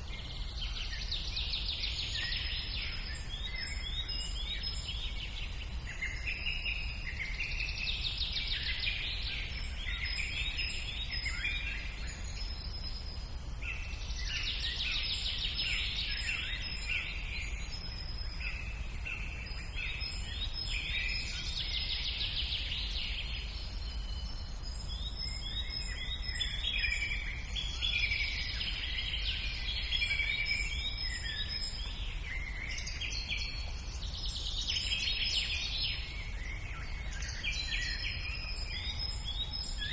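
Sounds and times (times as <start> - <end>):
birds singing trilling song: 0.0 - 39.9.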